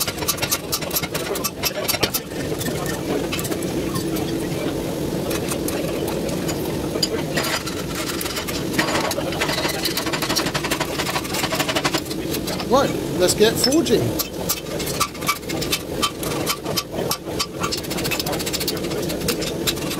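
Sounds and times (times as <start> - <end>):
steady mechanical hum: 0.0 - 19.9.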